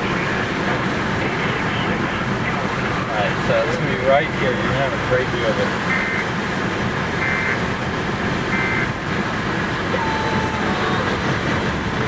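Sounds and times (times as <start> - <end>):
vehicle and road noise: 0.0 - 12.0.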